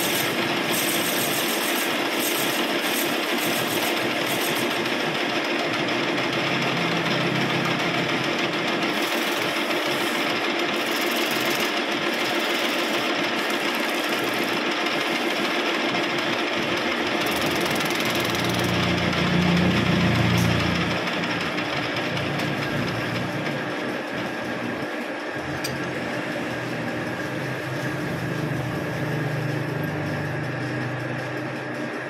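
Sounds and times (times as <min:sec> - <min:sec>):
metal lathe running: 0:00.0 - 0:32.0.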